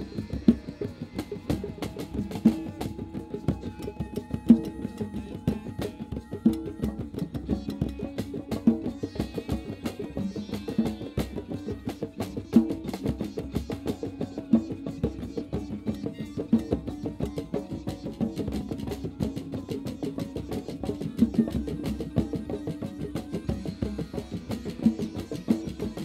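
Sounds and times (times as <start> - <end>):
djembes struck: 0.0 - 26.0
drum kit played with sticks: 0.0 - 26.0.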